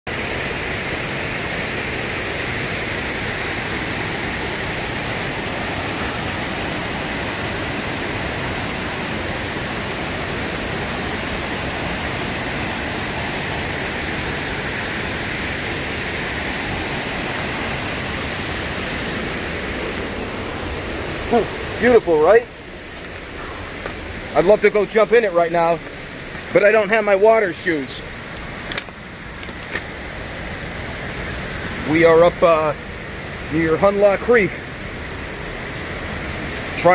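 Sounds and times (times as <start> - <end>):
water rushing over rocks: 0.1 - 36.9.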